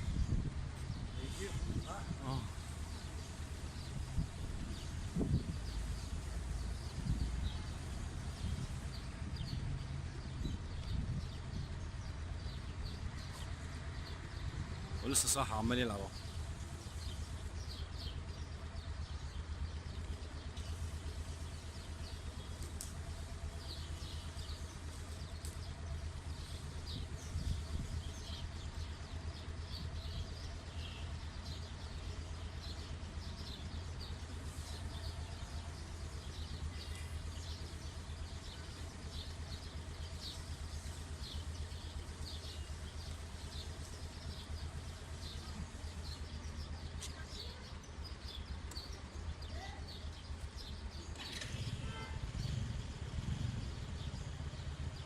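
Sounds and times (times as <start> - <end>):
birds chirping: 0.0 - 55.0
steady low rumble: 0.0 - 55.0.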